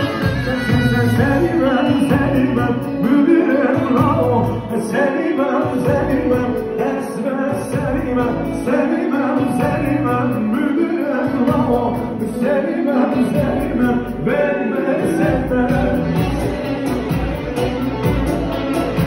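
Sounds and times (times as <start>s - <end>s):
live band dance music: 0.0s - 19.0s
person singing: 0.0s - 19.0s.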